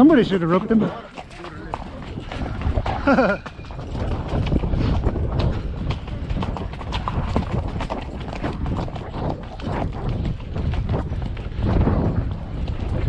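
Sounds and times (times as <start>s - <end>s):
horse hooves clopping on rocky trail: 0.0s - 13.0s
wind rumble on camera: 0.0s - 13.0s.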